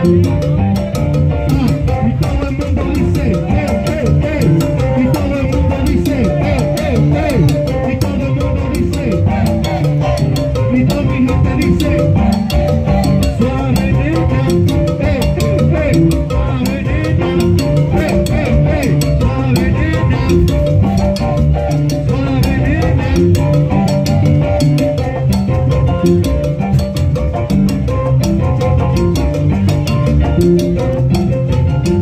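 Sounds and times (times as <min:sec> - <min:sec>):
person singing: 0:00.0 - 0:25.7
congas and hand percussion: 0:00.0 - 0:32.0
keyboard chords: 0:00.0 - 0:32.0.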